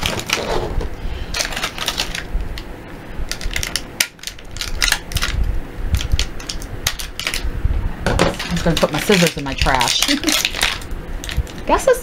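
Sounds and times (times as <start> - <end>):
plastic packaging crinkling: 0.0 - 2.6, 3.2 - 5.4, 6.0 - 7.5, 8.1 - 11.7.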